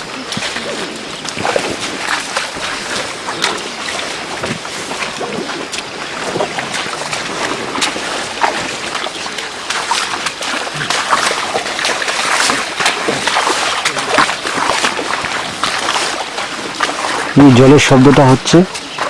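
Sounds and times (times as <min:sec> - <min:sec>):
elephants splashing through water: 0:00.0 - 0:19.0.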